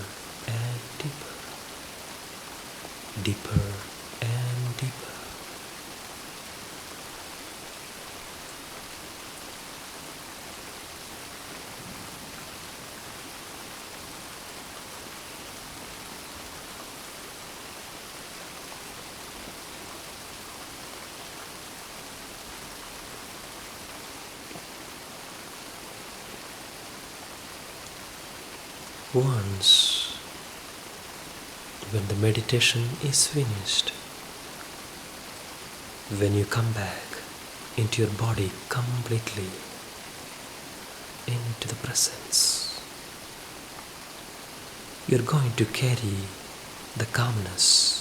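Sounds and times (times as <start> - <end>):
gentle rain falling: 0.0 - 48.0.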